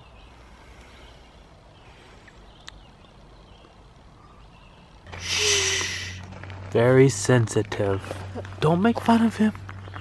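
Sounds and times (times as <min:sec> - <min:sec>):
faint steady hiss: 0:00.0 - 0:08.2.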